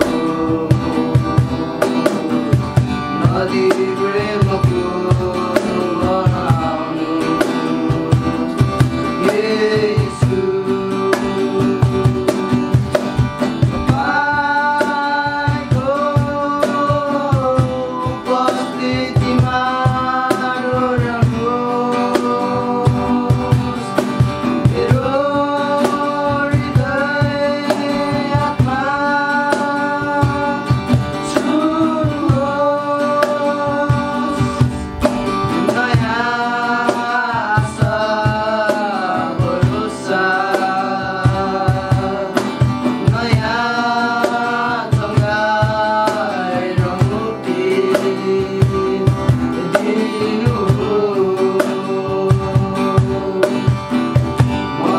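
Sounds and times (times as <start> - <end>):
guitar: 0.0 - 54.9
person singing: 0.0 - 54.9
steady drum beat: 0.0 - 54.9.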